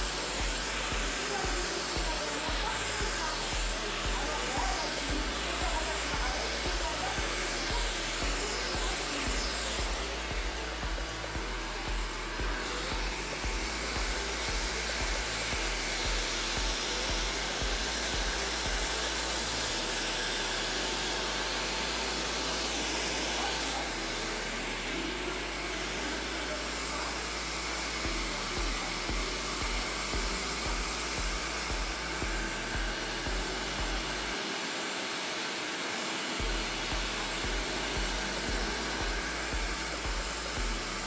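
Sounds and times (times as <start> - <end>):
hair dryer blowing: 0.0 - 41.0.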